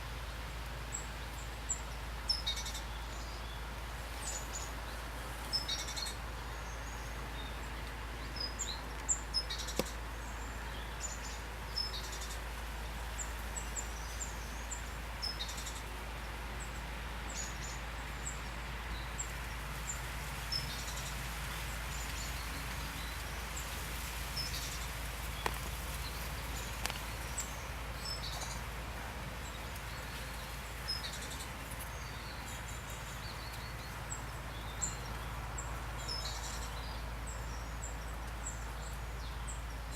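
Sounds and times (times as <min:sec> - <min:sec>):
pouring rain: 0:00.0 - 0:39.9
small birds chirping: 0:00.0 - 0:39.9.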